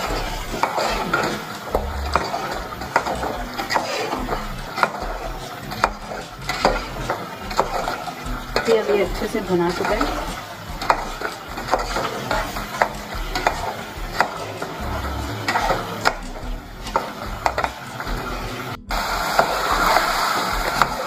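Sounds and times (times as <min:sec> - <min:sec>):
spoon knocking against pot: 0:00.0 - 0:18.2
masala sizzling: 0:00.0 - 0:21.0
spoon stirring and scraping pot: 0:00.0 - 0:21.0.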